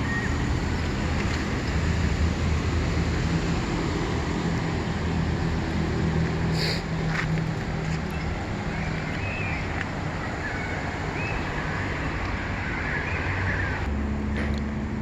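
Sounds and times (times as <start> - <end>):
constant rushing noise: 0.0 - 15.0
low engine hum: 0.0 - 15.0.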